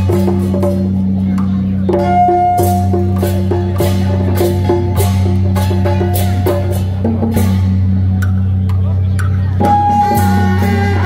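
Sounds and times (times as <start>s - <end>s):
drum gongs and cymbals playing: 0.0s - 11.0s.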